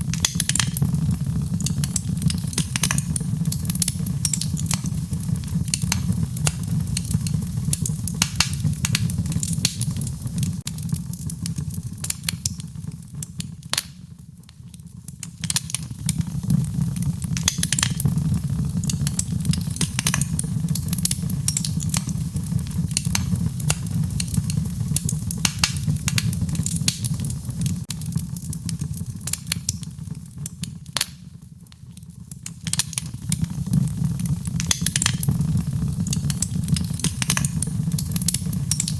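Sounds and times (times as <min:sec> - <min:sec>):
low fire rumble: 0:00.0 - 0:38.9
wood fire crackling and popping: 0:00.0 - 0:38.9.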